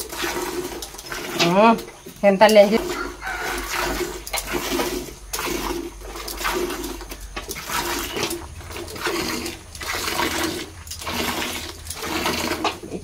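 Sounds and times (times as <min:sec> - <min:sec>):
milk squirting into steel bucket: 0:00.0 - 0:13.0.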